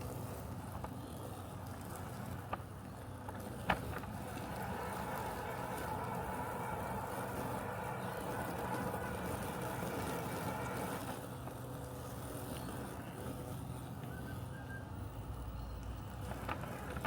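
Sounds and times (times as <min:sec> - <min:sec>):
robotic lawn mower humming: 0:00.0 - 0:17.0.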